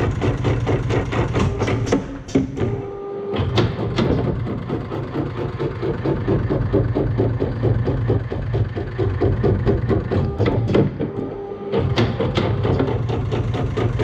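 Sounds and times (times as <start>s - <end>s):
sewing machine clattering: 0.0s - 2.6s, 3.5s - 14.0s
machine hum: 0.0s - 14.0s.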